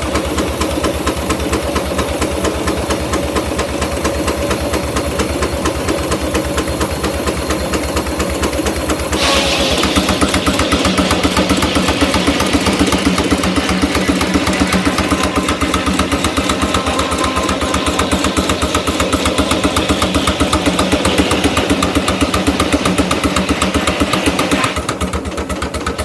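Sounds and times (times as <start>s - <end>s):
steam hiss: 0.0s - 25.4s
steam engine exhaust beating: 0.0s - 26.0s.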